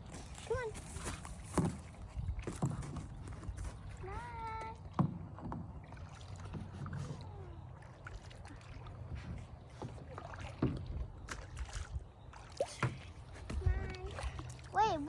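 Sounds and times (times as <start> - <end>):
paddle strokes in water: 0.0 - 15.0.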